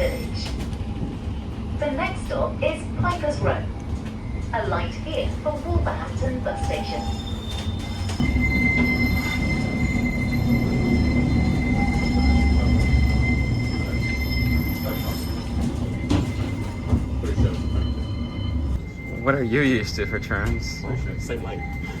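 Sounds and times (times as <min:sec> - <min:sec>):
tram rolling rumble: 0:00.0 - 0:22.0.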